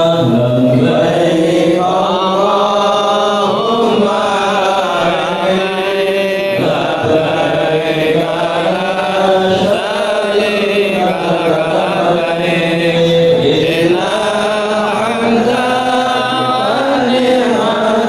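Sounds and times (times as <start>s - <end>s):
voices chanting: 0.0s - 18.0s.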